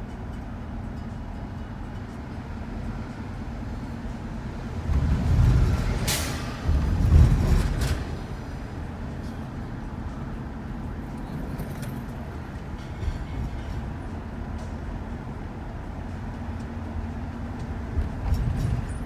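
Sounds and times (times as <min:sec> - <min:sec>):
van road rumble: 0:00.0 - 0:19.0.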